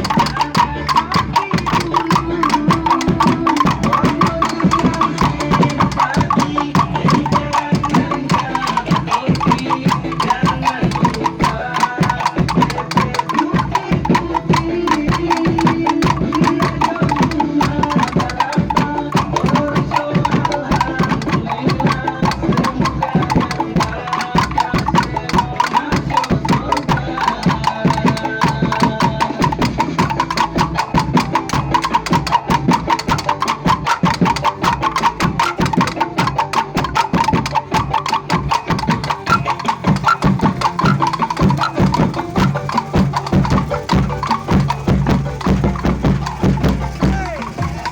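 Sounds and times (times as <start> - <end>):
music with fast percussion: 0.0 - 47.9.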